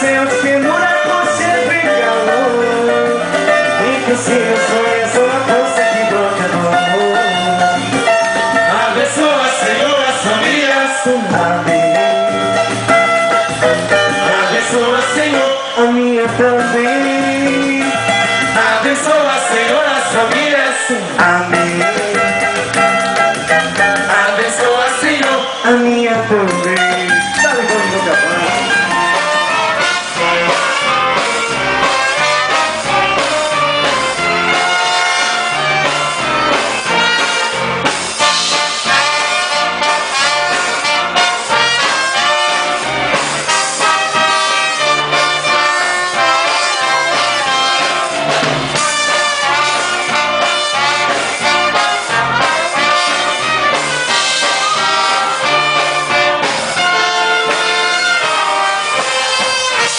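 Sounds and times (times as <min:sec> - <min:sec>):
orchestra playing christmas music: 0:00.0 - 0:59.9.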